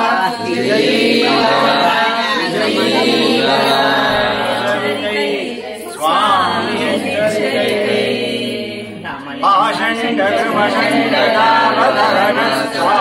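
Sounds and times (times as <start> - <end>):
group chanting a hymn: 0.0 - 13.0.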